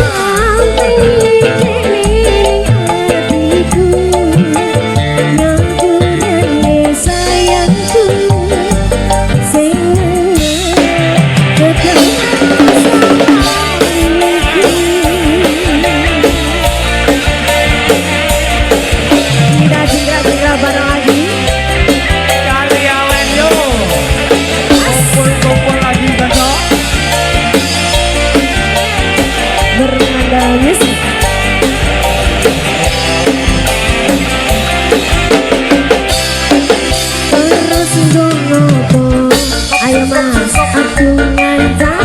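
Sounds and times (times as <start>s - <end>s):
drum kit beat: 0.0s - 42.0s
live band music: 0.0s - 42.0s.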